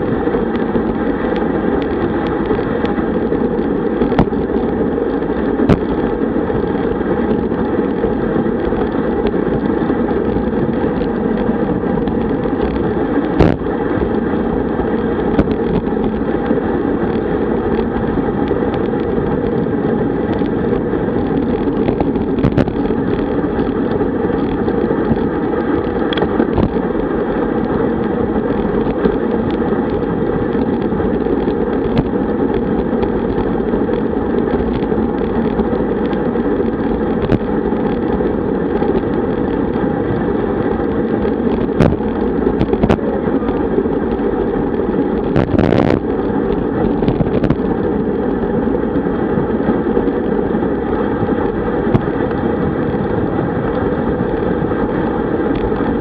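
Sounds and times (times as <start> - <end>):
tyre and road noise: 0.0 - 56.0
wind rushing over microphone: 0.0 - 56.0.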